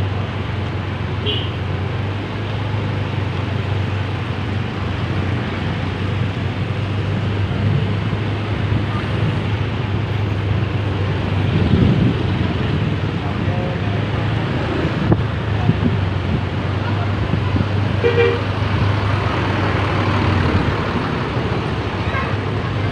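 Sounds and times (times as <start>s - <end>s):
road noise: 0.0s - 22.9s
vehicle engine drone: 0.0s - 22.9s.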